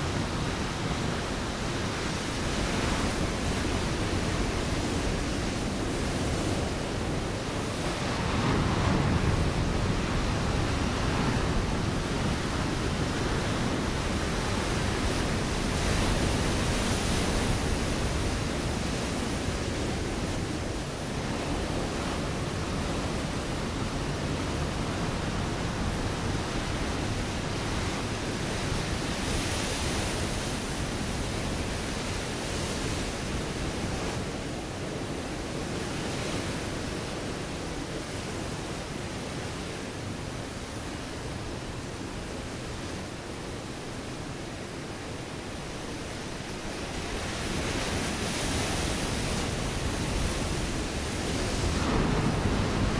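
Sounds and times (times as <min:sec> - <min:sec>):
ocean waves breaking on rocks: 0:00.0 - 0:52.9.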